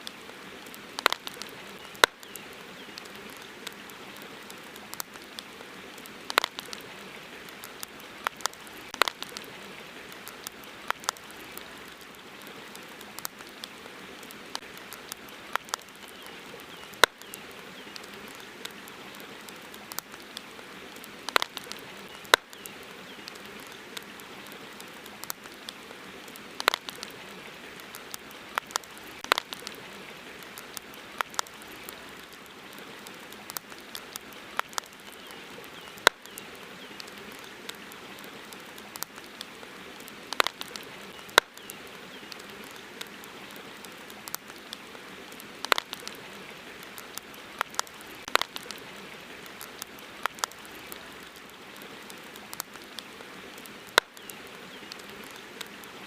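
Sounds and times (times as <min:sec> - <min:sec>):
background hiss: 0:00.0 - 0:56.0
campfire crackling: 0:00.0 - 0:56.0.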